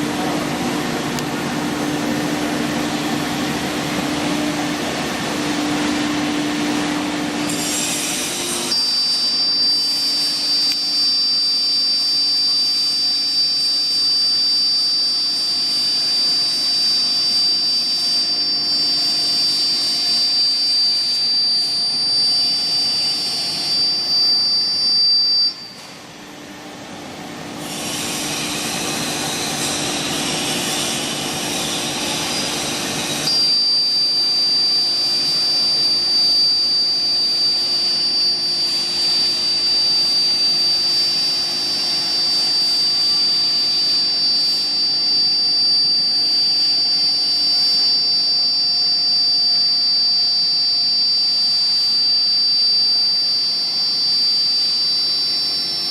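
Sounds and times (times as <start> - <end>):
router spindle whine: 0.0 - 55.9.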